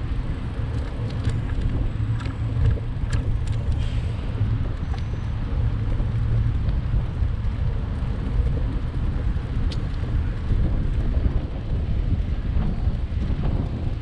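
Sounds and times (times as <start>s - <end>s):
passing cars: 0.0s - 14.0s
wind buffeting microphone: 0.0s - 14.0s.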